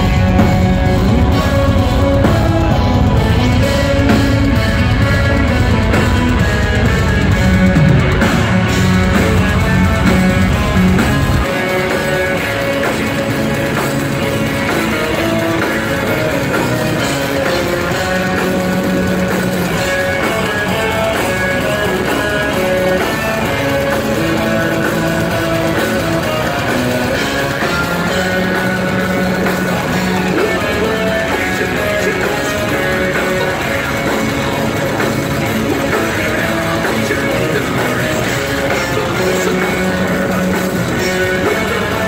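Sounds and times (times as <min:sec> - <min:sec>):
drum kit: 0:00.0 - 0:42.0
electric guitars: 0:00.0 - 0:42.0.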